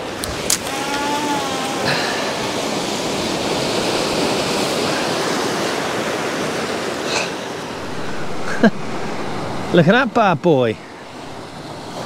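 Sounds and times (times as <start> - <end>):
sea surf washing on shore: 0.0 - 12.0.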